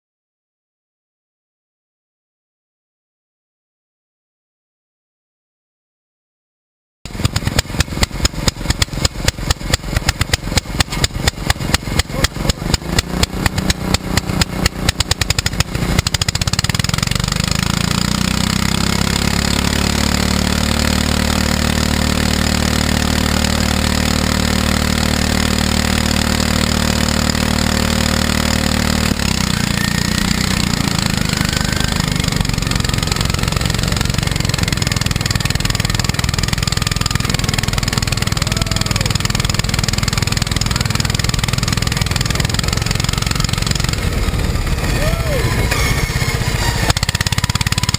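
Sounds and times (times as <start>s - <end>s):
racing lawn mower engine: 7.1s - 47.9s.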